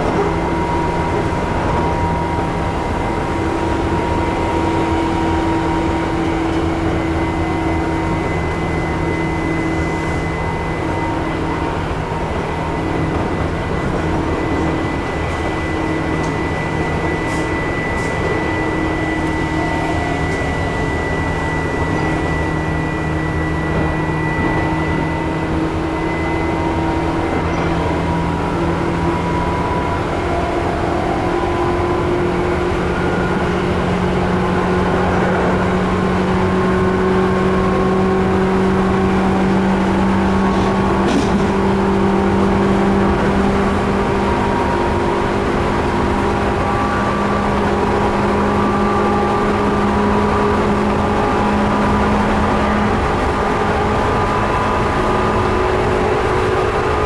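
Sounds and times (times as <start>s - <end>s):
electric traction motor whine: 0.0s - 57.0s
train wheels rumbling on rail: 0.0s - 57.0s.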